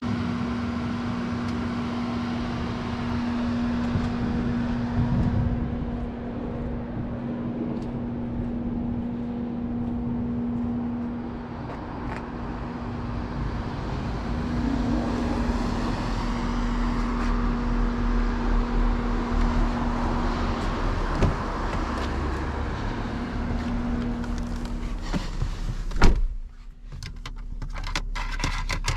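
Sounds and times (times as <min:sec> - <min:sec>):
car engine humming: 0:00.0 - 0:28.9
road and cabin noise: 0:00.0 - 0:28.9.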